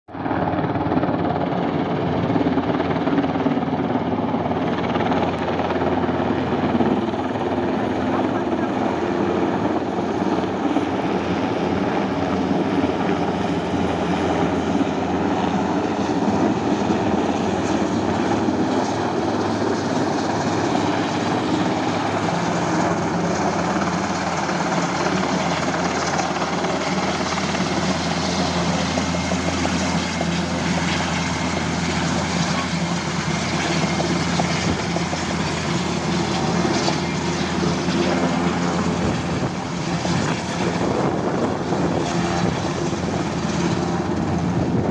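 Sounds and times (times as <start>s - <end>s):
helicopter rotor and engines: 0.0s - 44.9s.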